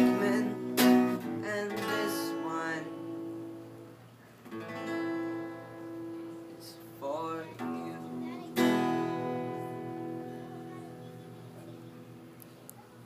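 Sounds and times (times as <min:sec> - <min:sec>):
acoustic guitar strummed chords: 0:00.0 - 0:12.6.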